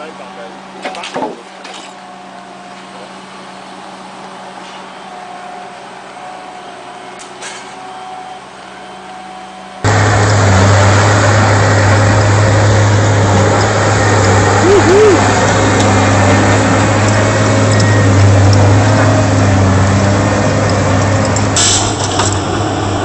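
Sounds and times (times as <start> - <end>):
heavy machine engine running: 2.0 - 23.0.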